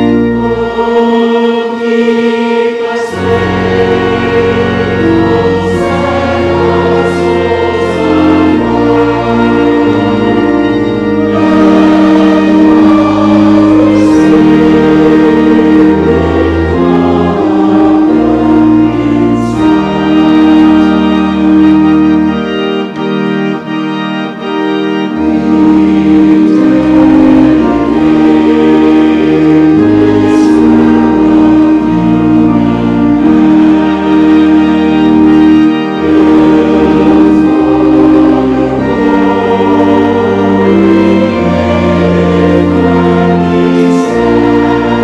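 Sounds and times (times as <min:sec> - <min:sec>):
choir singing: 0:00.0 - 0:45.0
organ chords: 0:00.0 - 0:45.0.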